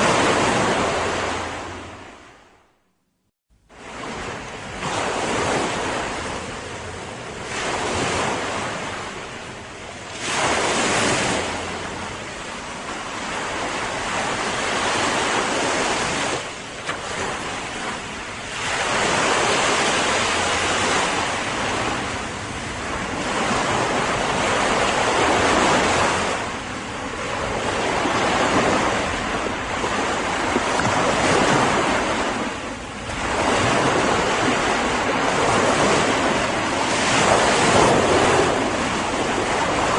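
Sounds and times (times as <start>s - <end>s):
ocean waves breaking: 0.0s - 2.8s, 3.6s - 39.9s.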